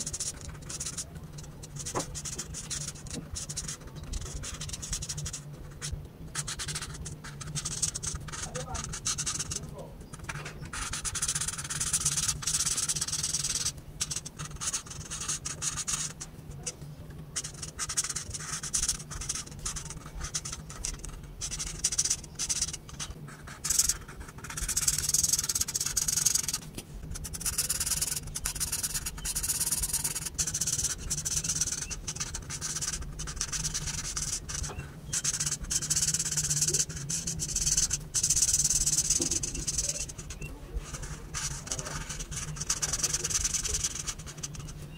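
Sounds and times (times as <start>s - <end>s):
faint low hum: 0.0s - 44.9s
marker scratching on paper: 0.0s - 44.9s.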